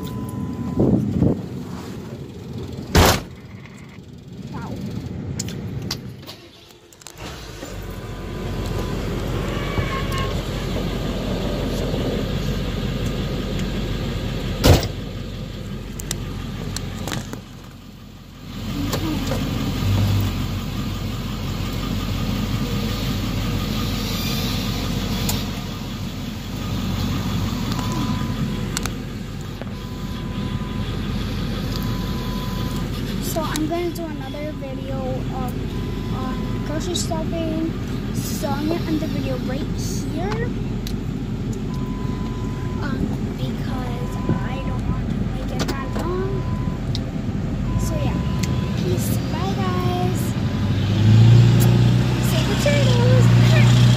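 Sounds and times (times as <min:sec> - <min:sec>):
road and engine noise in car: 0:00.0 - 0:53.9.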